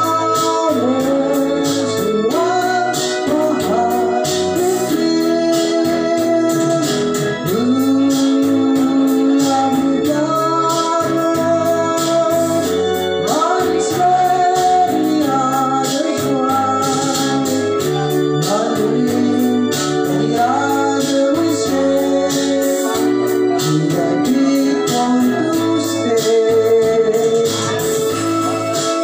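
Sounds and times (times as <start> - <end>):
keyboard or organ backing: 0.0 - 29.0
person singing: 0.0 - 29.0.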